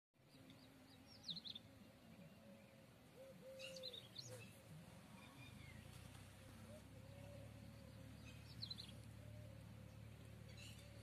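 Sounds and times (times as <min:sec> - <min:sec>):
low outdoor background: 0:00.2 - 0:11.0
small birds chirping: 0:00.2 - 0:11.0.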